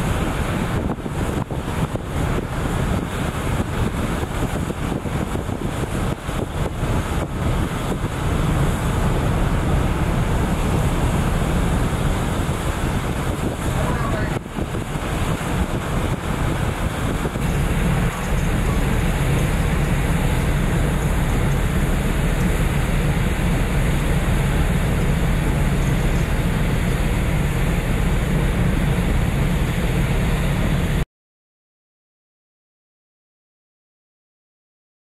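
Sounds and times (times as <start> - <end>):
ship engines rumbling: 0.0 - 31.0
wind and water hiss: 0.0 - 31.0.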